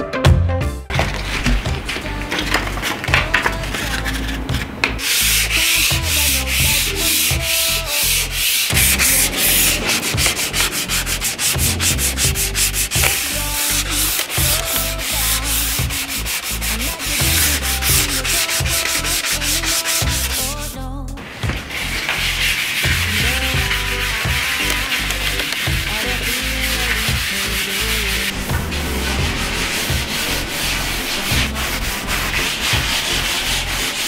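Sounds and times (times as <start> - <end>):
sandpaper rubbing on wood: 1.0 - 34.0.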